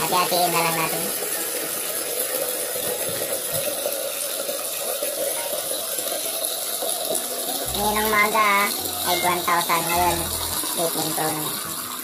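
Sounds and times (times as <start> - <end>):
water pouring into plastic jar: 0.0 - 12.0.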